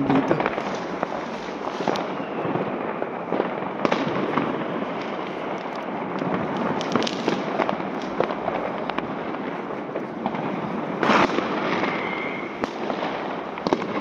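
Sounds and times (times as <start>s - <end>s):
fireworks and firecrackers bangs: 0.0s - 14.0s
loud firework burst: 0.0s - 14.0s
firework whistle: 0.4s - 9.0s, 10.4s - 14.0s.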